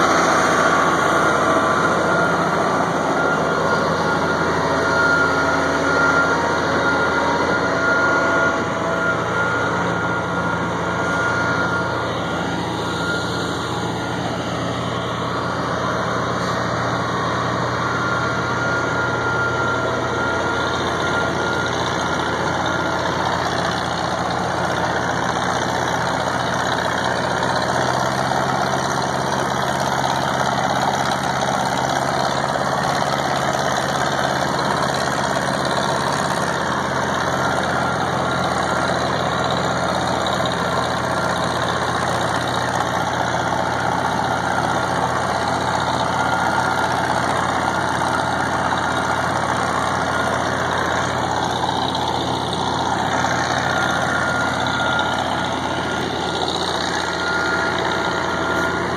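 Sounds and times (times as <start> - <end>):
diesel engines and machinery droning: 0.0 - 58.9.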